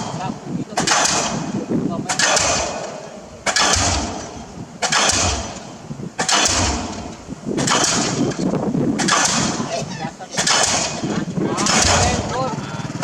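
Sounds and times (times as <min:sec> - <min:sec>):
pile hammer bangs: 0:00.0 - 0:12.4.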